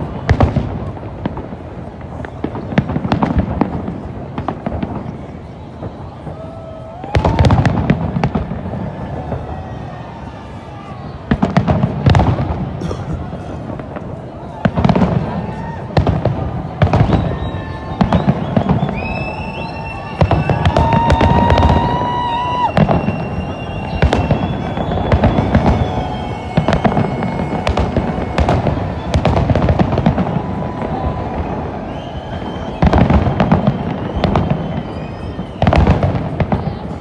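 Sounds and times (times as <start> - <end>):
fireworks booming and crackling: 0.0 - 37.0.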